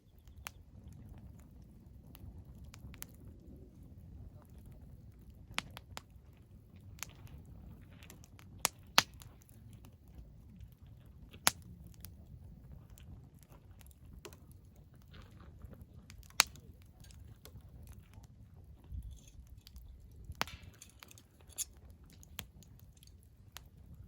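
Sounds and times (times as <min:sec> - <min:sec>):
firewood crackling: 0:00.0 - 0:24.0
fire popping: 0:00.1 - 0:24.0.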